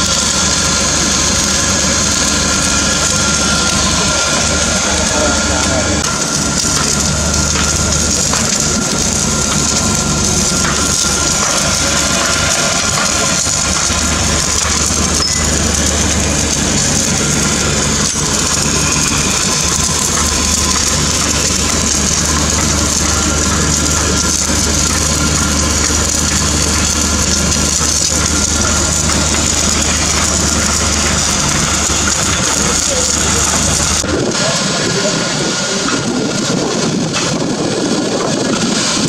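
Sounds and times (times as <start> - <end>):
welding equipment drone: 0.0 - 39.0.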